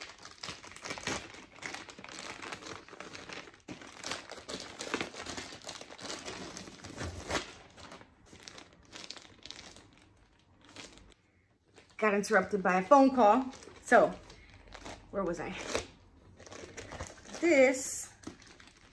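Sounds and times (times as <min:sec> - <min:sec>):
plastic bag crinkling: 0:00.0 - 0:18.9.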